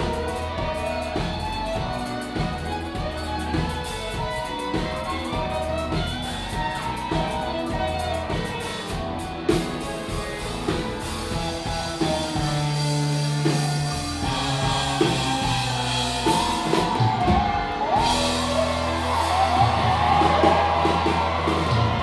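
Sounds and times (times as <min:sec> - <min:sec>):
live country band playing: 0:00.0 - 0:22.0.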